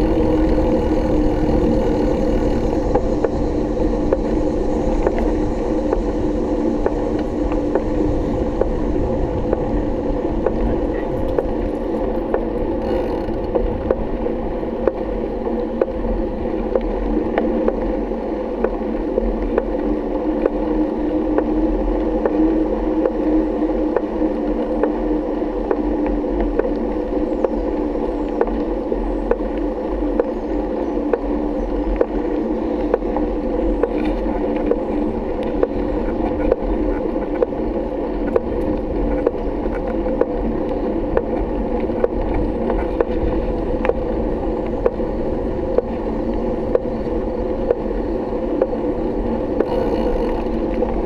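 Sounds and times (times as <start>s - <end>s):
bicycle tyres rumbling on road: 0.0s - 51.0s
light regular ticks: 0.0s - 51.0s.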